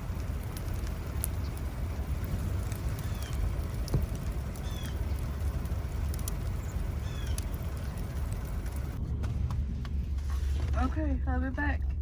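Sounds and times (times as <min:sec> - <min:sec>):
sleet ticking on surfaces: 0:00.0 - 0:09.9
low rumble: 0:00.0 - 0:12.0.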